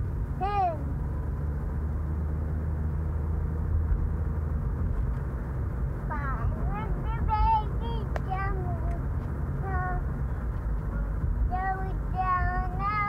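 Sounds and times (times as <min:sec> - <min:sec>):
car rumble: 0:00.0 - 0:13.0.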